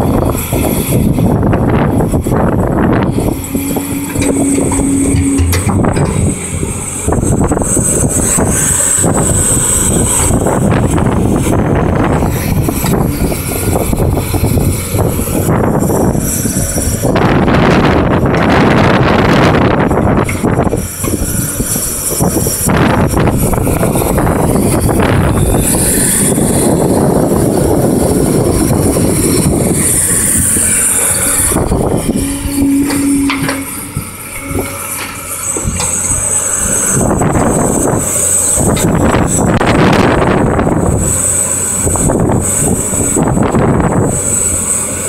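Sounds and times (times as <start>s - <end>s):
excavator diesel engine rumble: 0.0s - 45.0s.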